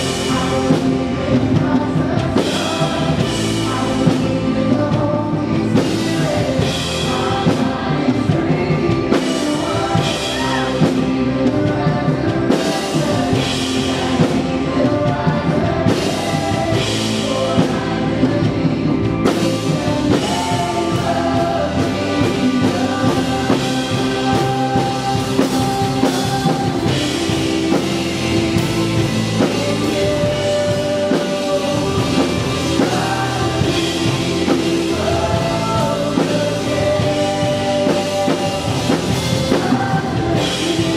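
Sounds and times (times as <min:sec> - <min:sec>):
band playing live: 0:00.0 - 0:40.9
person singing: 0:00.0 - 0:40.9.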